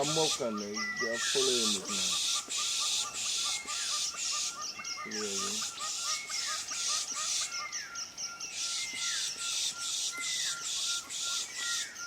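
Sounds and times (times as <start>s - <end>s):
bird whistle gliding downward: 0.0s - 12.0s
harsh rasping bird calls: 0.0s - 12.0s.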